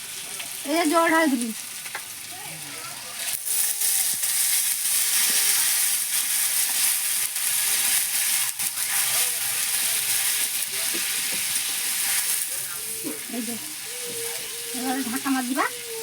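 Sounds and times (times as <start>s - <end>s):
curry sizzling in a pan: 0.0s - 16.0s.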